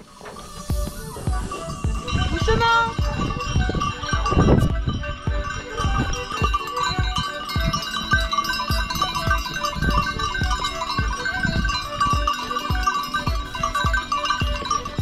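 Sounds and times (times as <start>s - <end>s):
dull low thumps of hooves: 0.0s - 15.0s
goat neck bells ringing: 0.0s - 15.0s.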